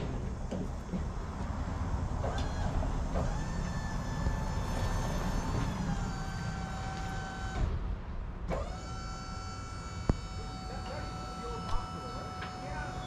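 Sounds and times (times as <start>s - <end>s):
high mechanical whine: 0.0s - 13.0s
truck engine rumble: 0.0s - 13.0s.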